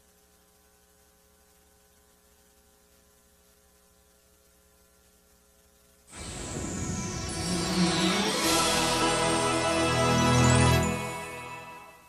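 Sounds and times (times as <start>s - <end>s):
faint mains hum: 0.0s - 12.0s
tape hiss: 0.0s - 12.0s.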